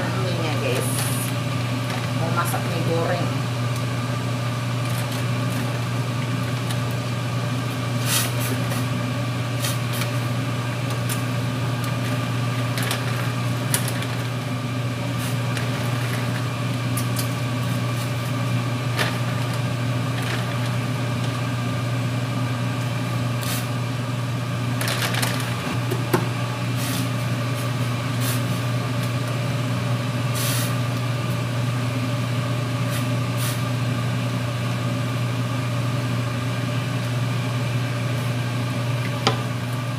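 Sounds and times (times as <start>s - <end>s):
range hood fan humming: 0.0s - 39.9s.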